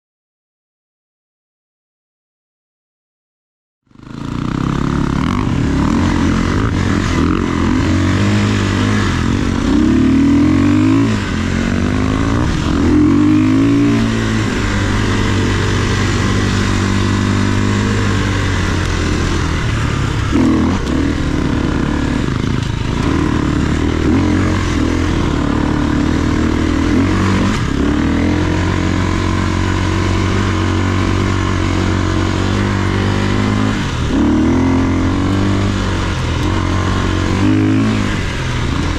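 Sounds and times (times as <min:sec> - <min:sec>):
dirt bike engine revving: 0:03.9 - 0:38.9.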